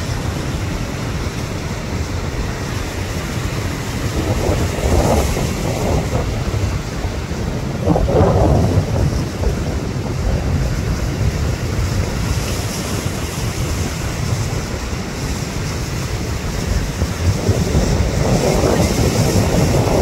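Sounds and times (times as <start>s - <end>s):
surf breaking against rocks: 0.0s - 20.0s
wind buffeting microphone: 0.0s - 20.0s.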